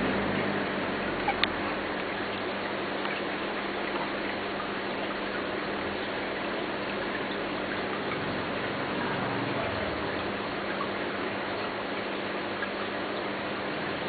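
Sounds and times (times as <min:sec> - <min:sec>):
aquarium water hiss: 0:00.0 - 0:14.0.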